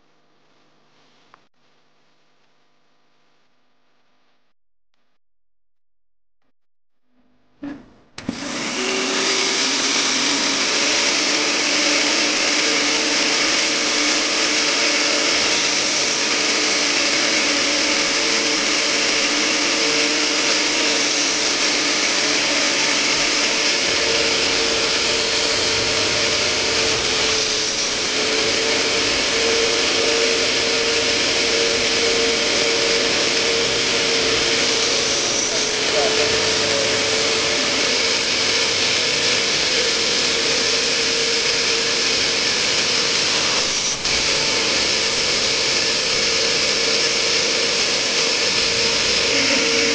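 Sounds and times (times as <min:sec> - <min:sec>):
extraction vacuum running: 0:07.6 - 0:49.9.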